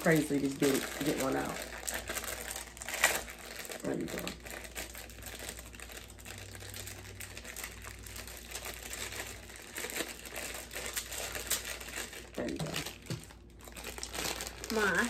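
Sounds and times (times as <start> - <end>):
plastic snack bag crinkling: 0.0 - 15.0.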